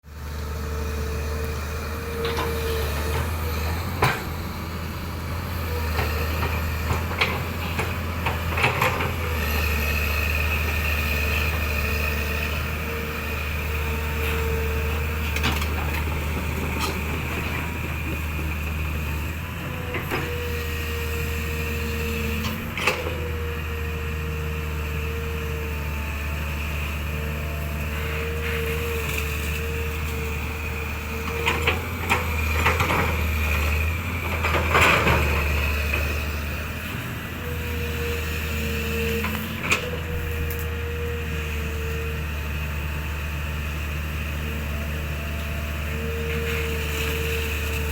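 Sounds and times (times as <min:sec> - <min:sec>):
engine humming: 0:00.1 - 0:47.9.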